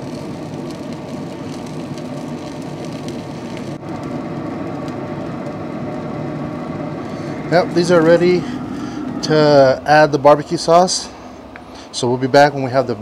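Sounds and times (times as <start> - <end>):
faint crackles: 0.0 - 12.1
pellet grill whirring: 0.0 - 13.0.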